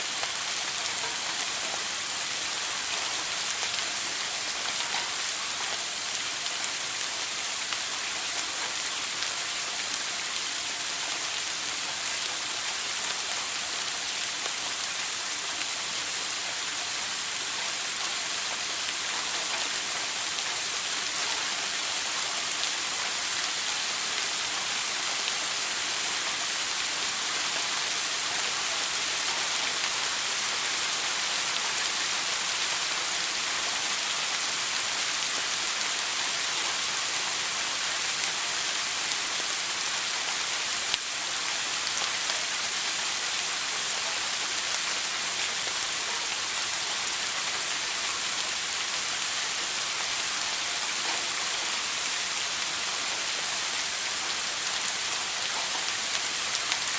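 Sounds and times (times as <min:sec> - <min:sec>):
shower water spray hissing: 0:00.0 - 0:56.9.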